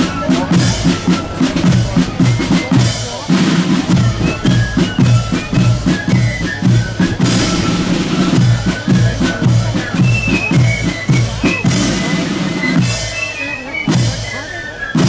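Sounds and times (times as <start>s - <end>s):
faint band melody: 0.0s - 15.0s
marching drums: 0.0s - 15.0s.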